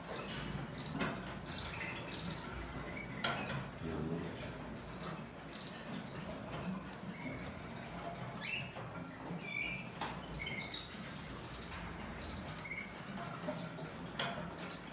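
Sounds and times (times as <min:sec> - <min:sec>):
canary chirping: 0:00.0 - 0:03.7, 0:04.5 - 0:14.9.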